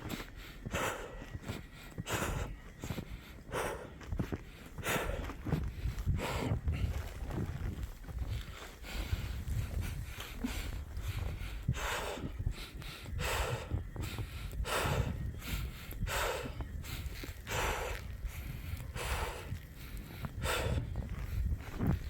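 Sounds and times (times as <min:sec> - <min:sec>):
footsteps in deep snow: 0:00.0 - 0:22.0.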